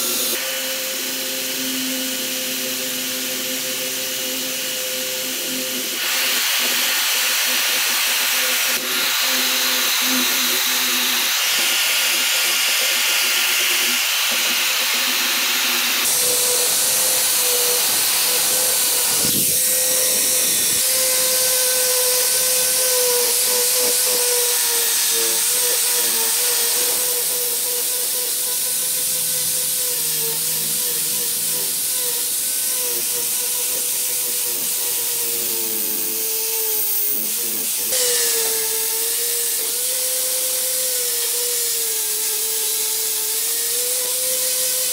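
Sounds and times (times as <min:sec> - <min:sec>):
angle grinder sanding metal: 0:00.0 - 0:44.9.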